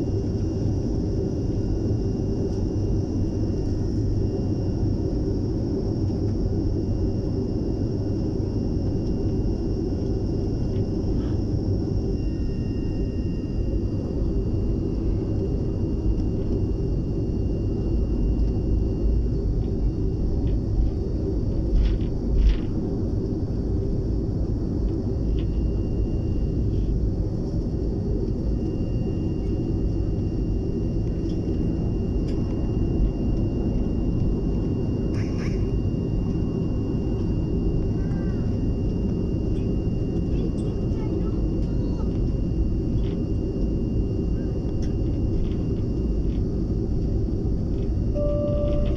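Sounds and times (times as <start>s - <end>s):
faint high whine: 0.0s - 21.8s, 24.0s - 48.9s
jet engines rumbling: 0.0s - 48.9s.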